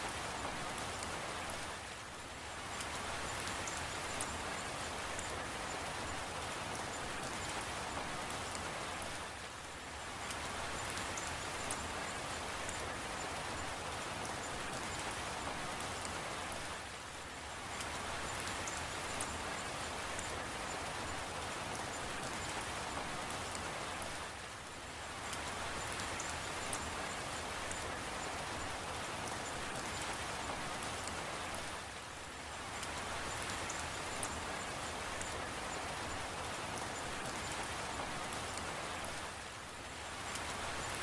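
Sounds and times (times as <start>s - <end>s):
raindrops ticking on a surface: 0.0s - 41.0s
steady rain hiss: 0.0s - 41.0s.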